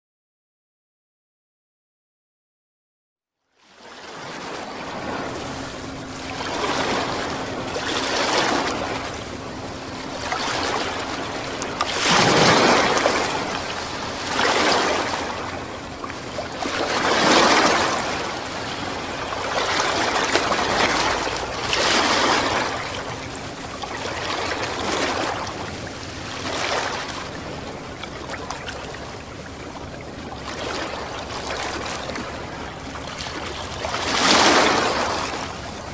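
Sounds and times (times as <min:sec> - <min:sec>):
faint steady hum: 0:03.4 - 0:35.9
wind: 0:03.4 - 0:35.9
ocean waves breaking: 0:03.6 - 0:35.9.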